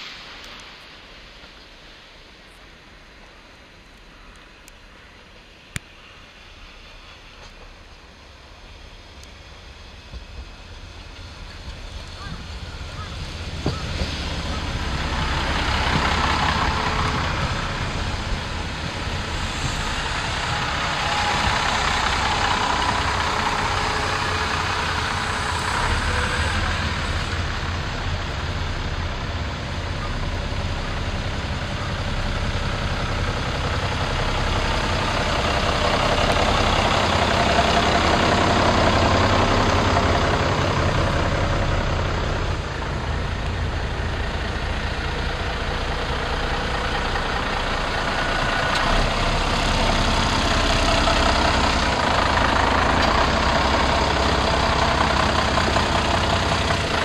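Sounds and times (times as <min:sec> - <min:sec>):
diesel railcar engine idling: 0:00.0 - 0:57.0.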